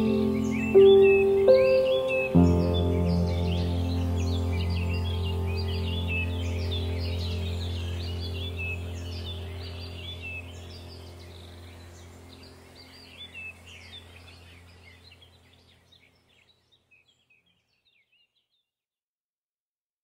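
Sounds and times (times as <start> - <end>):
steady low hum: 0.0 - 16.3
birds chirping: 0.0 - 18.6.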